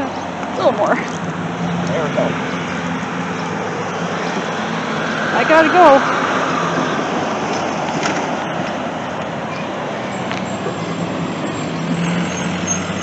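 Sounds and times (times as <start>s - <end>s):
cars going by: 0.0s - 13.0s.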